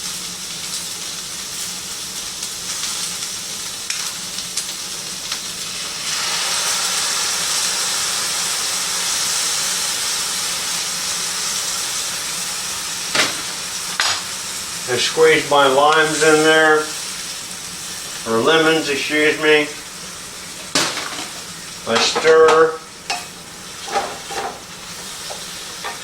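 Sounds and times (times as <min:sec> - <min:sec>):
sauce sizzling in a pan: 0:00.0 - 0:26.0.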